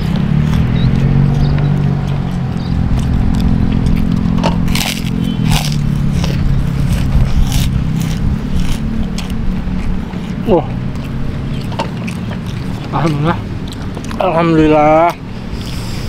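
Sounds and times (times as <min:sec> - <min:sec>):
sharp crackles: 0:00.0 - 0:14.3
chewing and crunchy bites: 0:00.0 - 0:16.0
low engine hum: 0:00.0 - 0:16.0.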